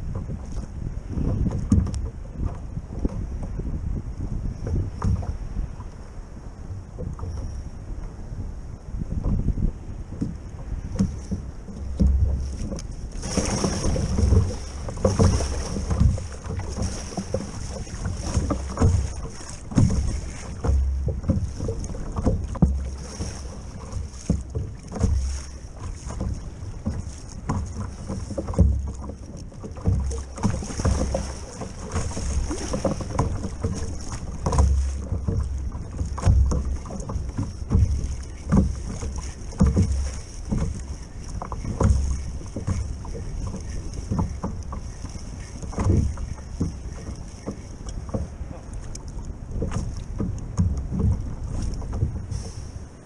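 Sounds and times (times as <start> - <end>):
waves slapping plastic hull: 0.0 - 53.0
wind buffeting microphone: 0.0 - 53.0.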